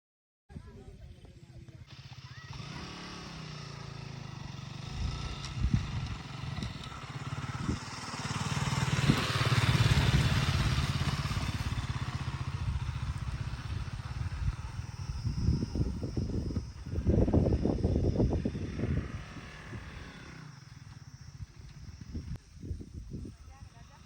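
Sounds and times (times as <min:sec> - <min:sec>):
motorcycle engine running: 0:00.6 - 0:24.0.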